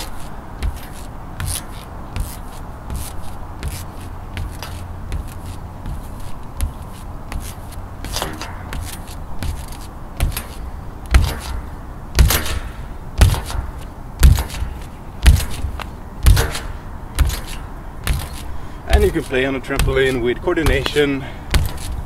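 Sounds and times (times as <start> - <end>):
feet thudding on trampoline: 0.0 - 22.0.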